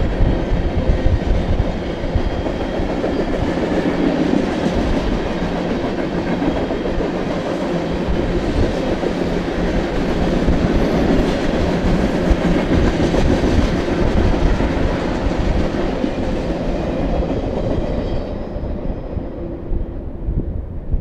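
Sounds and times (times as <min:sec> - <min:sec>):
freight train rumble and rattle: 0:00.0 - 0:21.0.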